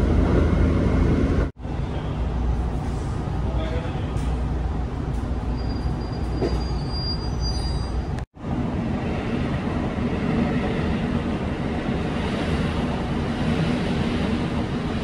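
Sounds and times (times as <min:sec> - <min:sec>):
diesel train engine drone: 0:00.0 - 0:15.0
rail and wheel noise: 0:00.0 - 0:15.0.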